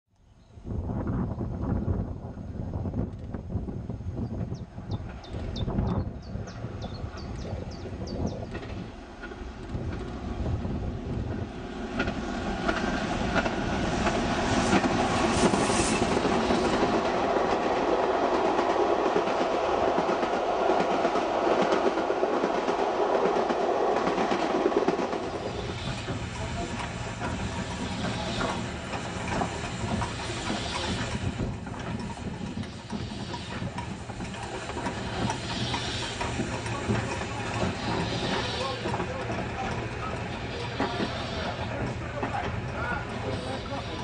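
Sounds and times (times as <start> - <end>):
steam train passing at speed: 0.7 - 44.0.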